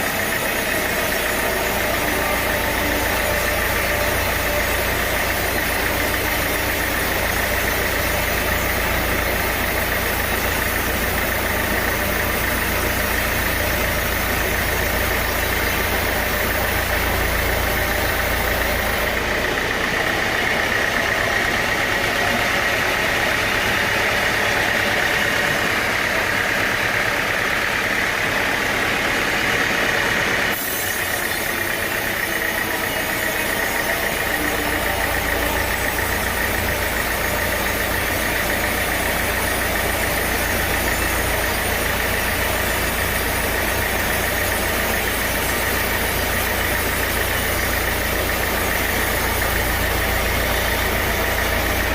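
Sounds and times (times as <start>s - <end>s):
high machine whine: 0.0s - 51.9s
sawmill machinery engine: 0.0s - 51.9s.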